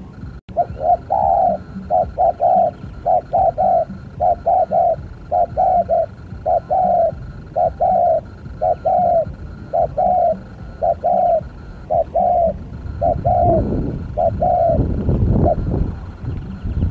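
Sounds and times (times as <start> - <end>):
dove cooing: 0.0 - 16.9
low rumbling noise: 0.0 - 16.9.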